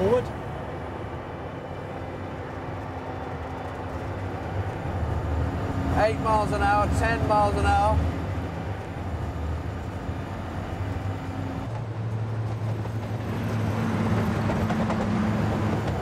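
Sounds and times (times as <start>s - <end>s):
diesel locomotive engine droning: 0.0s - 16.0s.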